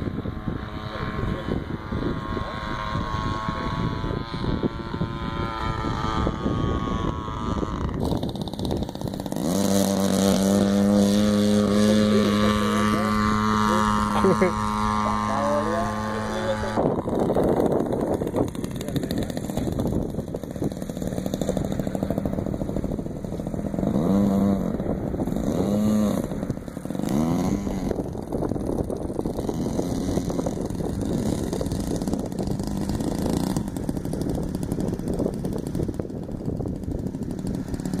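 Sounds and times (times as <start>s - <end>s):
engine throttle blips: 0.0s - 38.0s
model airplane engine idling: 0.0s - 38.0s.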